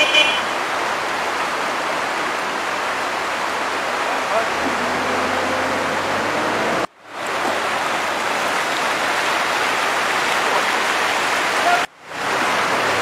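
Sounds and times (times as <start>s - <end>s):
rushing creek water: 0.0s - 13.0s.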